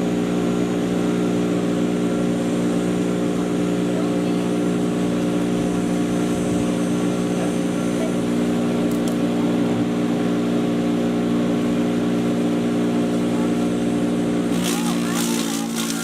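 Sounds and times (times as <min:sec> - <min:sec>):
electric chipper shredder humming: 0:00.0 - 0:16.0.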